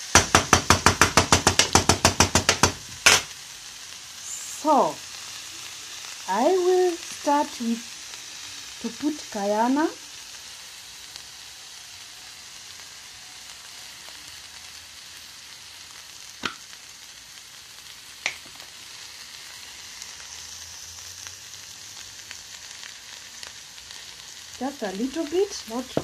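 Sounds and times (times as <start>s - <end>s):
onions sizzling in a frying pan: 0.0s - 26.0s.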